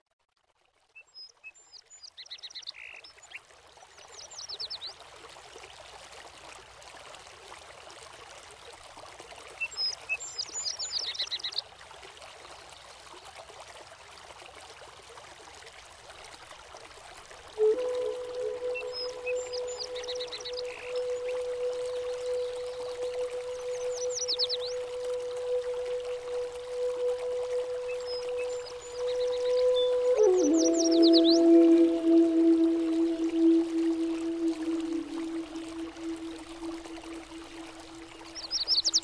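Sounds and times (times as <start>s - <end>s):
running water rushing: 2.6s - 39.0s.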